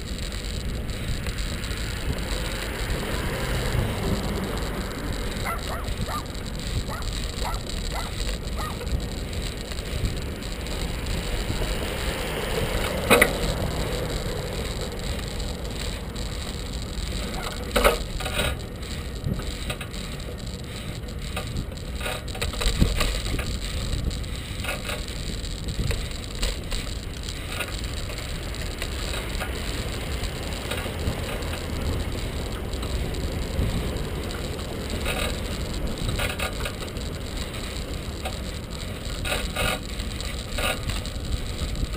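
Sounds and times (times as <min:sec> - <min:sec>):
bicycle and carrier rattling: 0:00.0 - 0:41.9
bicycle knocking over bumps: 0:00.0 - 0:41.9
wind and rolling tyres rumble: 0:00.0 - 0:41.9.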